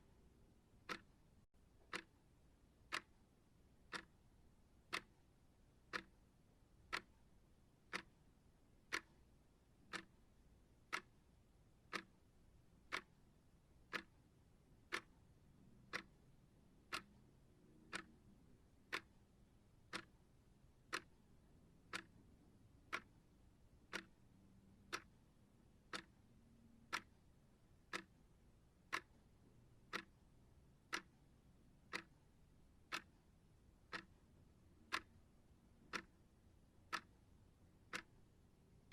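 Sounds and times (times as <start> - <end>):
timer ticking: 0.8 - 1.2, 1.8 - 4.2, 4.8 - 38.9.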